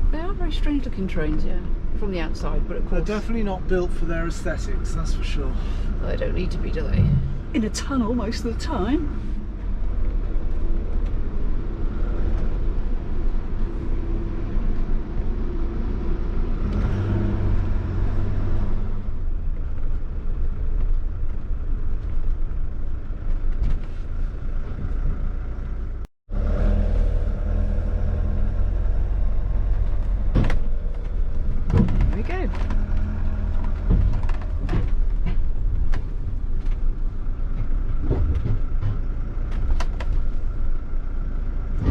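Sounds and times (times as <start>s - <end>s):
diesel engine rumble: 0.0s - 41.9s
road noise: 0.0s - 41.9s.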